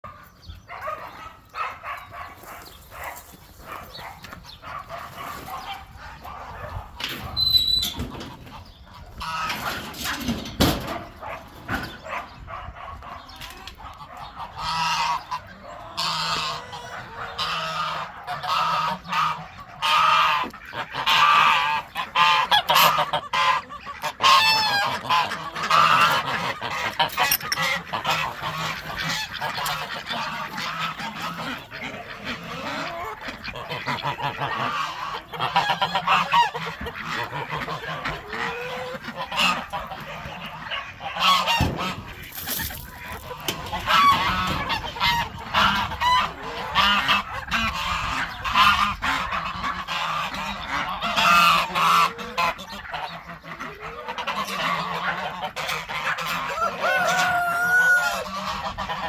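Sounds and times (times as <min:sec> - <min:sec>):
waterfowl calling: 0:10.8 - 0:59.0.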